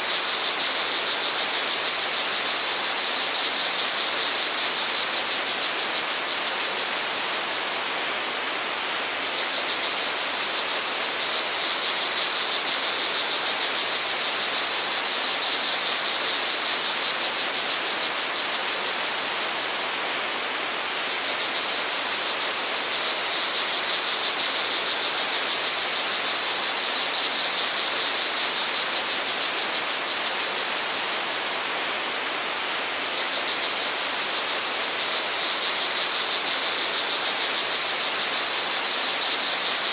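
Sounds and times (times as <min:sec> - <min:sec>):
crickets trilling: 0:00.1 - 0:07.8, 0:09.3 - 0:19.9, 0:21.0 - 0:31.6, 0:33.1 - 0:39.9.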